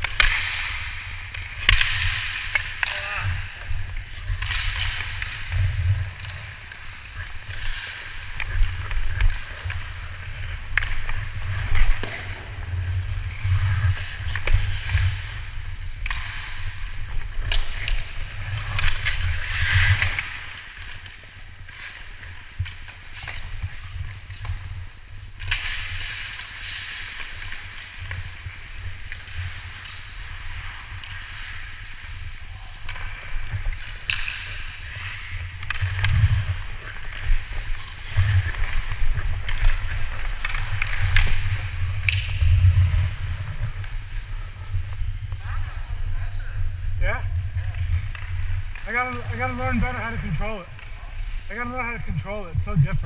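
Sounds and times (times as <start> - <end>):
skate blades scraping on ice: 0.1 - 46.2.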